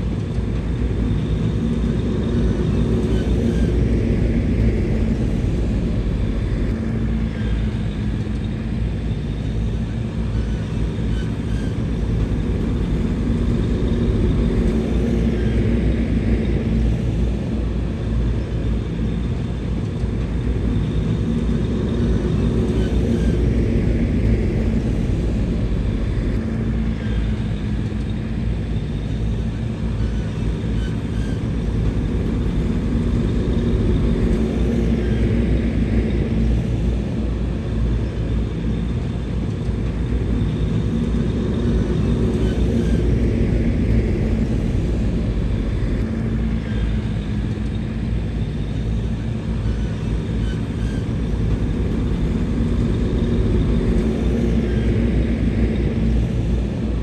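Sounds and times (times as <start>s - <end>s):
bulldozer diesel engine running: 0.7s - 19.2s, 20.2s - 57.0s.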